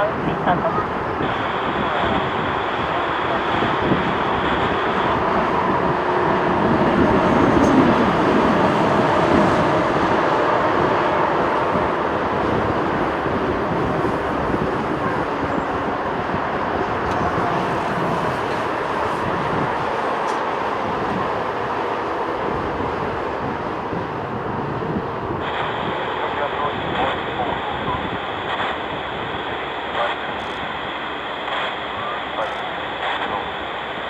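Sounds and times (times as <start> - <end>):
jet airliner engine rumble: 0.0 - 34.0.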